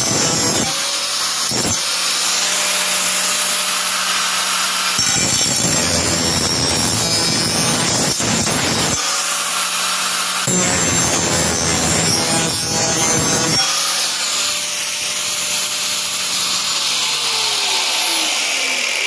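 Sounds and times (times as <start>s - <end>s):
angle grinder grinding metal: 0.0s - 19.0s
angle grinder whining: 0.0s - 19.0s.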